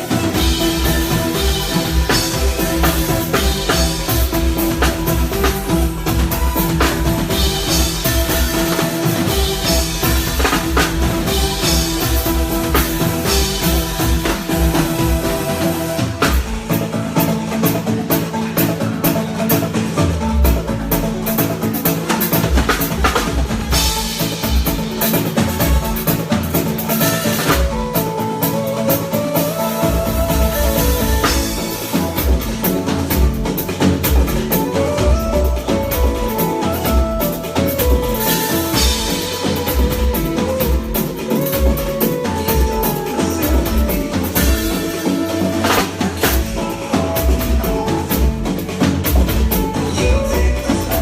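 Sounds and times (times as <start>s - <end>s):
live band playing: 0.0s - 51.0s.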